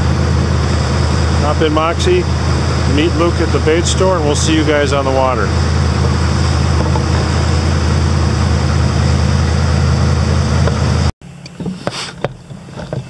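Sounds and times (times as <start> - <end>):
truck engine idling: 0.0 - 11.5.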